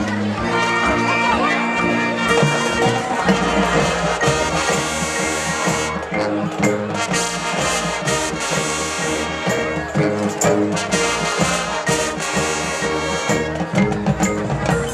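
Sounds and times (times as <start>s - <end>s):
marching band brass: 0.0s - 14.0s.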